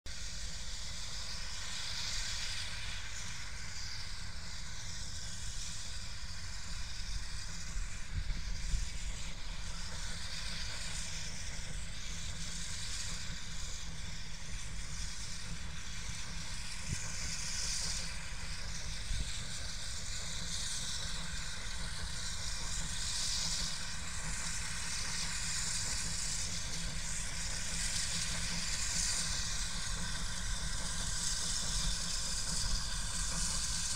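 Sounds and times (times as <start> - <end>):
distant steam locomotive: 0.1 - 33.9.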